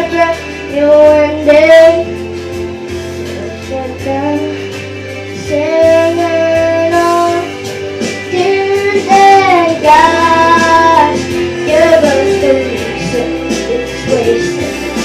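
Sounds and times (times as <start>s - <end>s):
boy singing a pop song: 0.0s - 15.0s
instrumental accompaniment: 0.0s - 15.0s.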